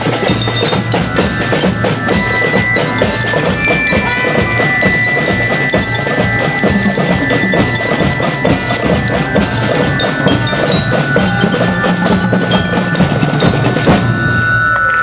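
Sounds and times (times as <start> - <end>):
snare and tenor drums beat: 0.0 - 14.0
glockenspiel melody: 0.0 - 15.0.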